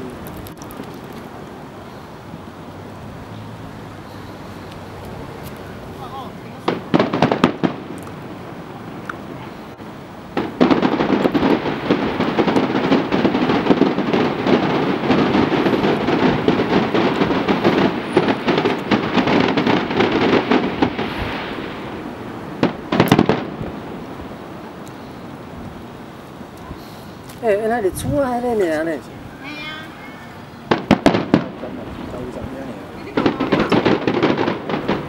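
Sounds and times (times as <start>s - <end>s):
fireworks bangs and crackles: 4.9s - 25.9s, 26.5s - 35.0s.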